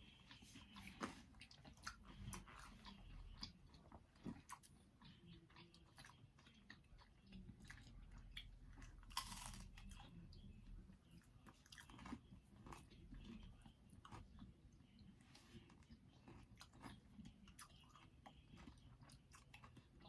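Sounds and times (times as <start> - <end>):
chewing and crunching pizza: 0.0 - 20.0.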